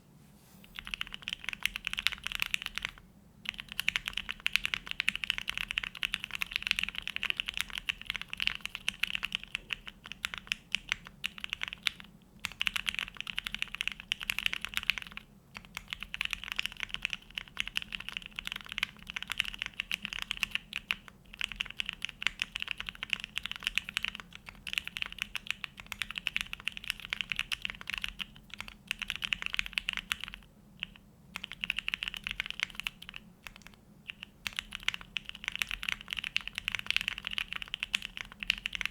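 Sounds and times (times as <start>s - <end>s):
mechanical keyboard typing: 0.8s - 38.9s.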